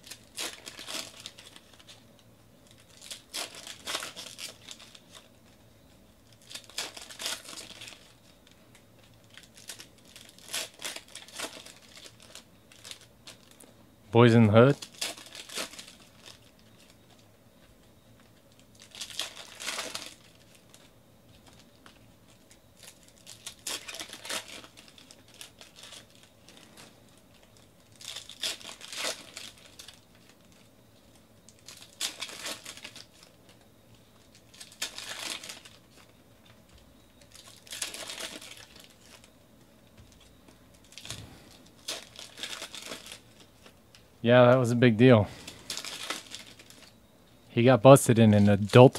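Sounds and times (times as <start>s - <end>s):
foil wrappers crinkling and tearing: 0.0s - 5.6s, 6.2s - 13.6s, 14.6s - 17.2s, 18.2s - 44.1s, 45.3s - 47.0s.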